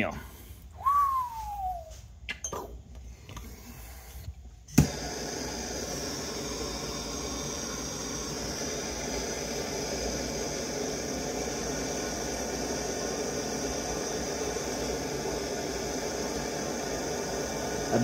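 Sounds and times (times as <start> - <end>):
torch flame hissing: 0.0 - 2.1, 3.0 - 18.0.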